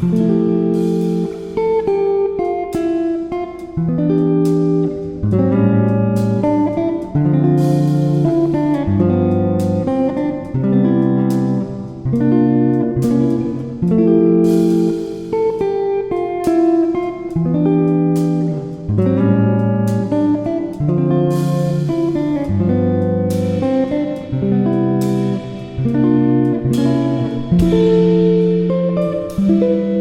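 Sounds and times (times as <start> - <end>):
plucked guitar music: 0.0 - 30.0.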